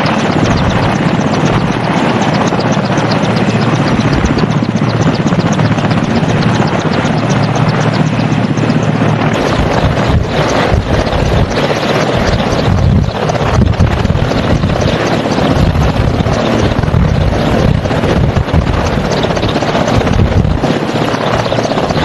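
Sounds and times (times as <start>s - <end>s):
helicopter rotor chop: 0.0s - 22.0s.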